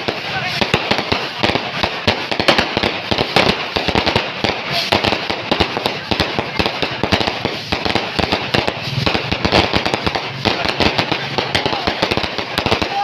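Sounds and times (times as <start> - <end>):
firecrackers crackling: 0.0 - 13.0.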